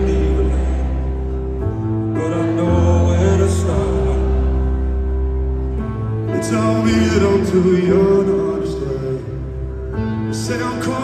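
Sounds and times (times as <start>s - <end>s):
person singing: 0.0s - 5.3s, 6.1s - 11.0s.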